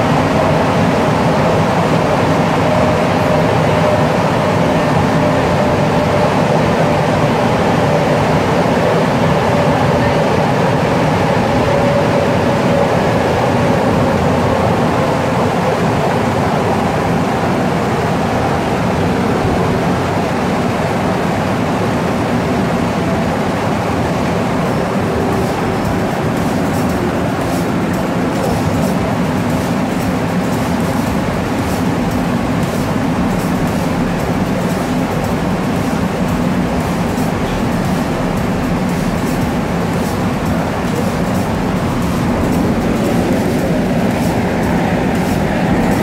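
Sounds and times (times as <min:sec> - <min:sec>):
train cabin rumble: 0:00.0 - 0:46.0.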